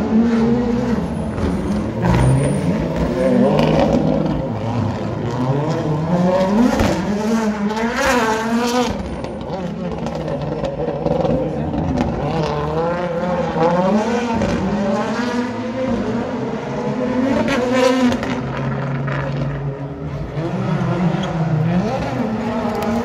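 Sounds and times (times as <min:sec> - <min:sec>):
rally car engine shifting gears: 0:00.0 - 0:23.0.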